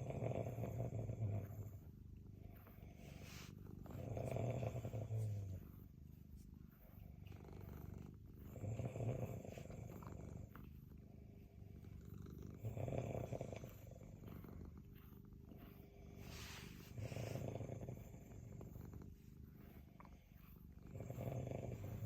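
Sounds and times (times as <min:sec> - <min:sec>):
continuous low rumble: 0:00.0 - 0:22.0.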